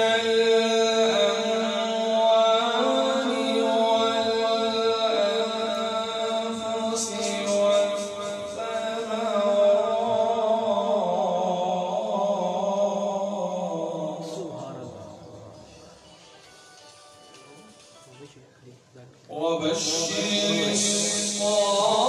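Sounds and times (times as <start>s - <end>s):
man chanting melodically: 0.0s - 16.0s, 19.2s - 22.0s.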